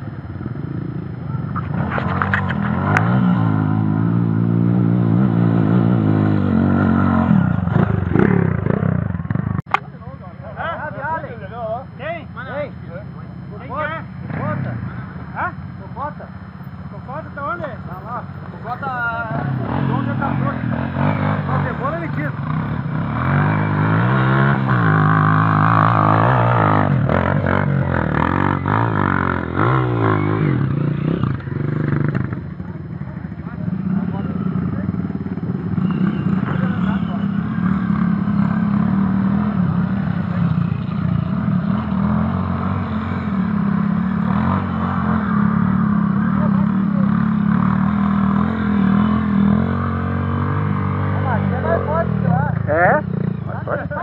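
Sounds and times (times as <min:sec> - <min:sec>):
trail motorcycle engine: 0:00.0 - 0:54.0.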